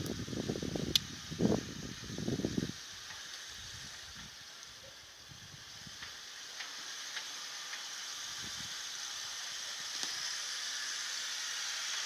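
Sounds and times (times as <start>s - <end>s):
tyres hissing on gravel: 0.0s - 12.0s.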